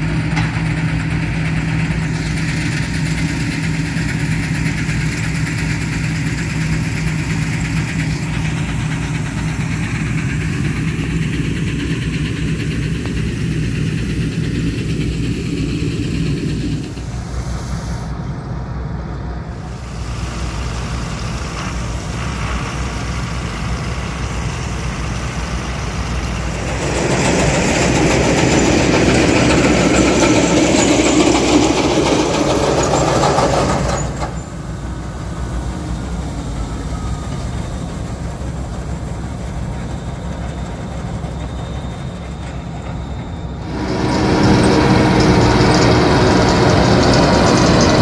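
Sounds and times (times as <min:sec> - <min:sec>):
working machinery: 0:00.0 - 0:18.4, 0:19.4 - 0:48.0
diesel engine running: 0:00.0 - 0:48.0.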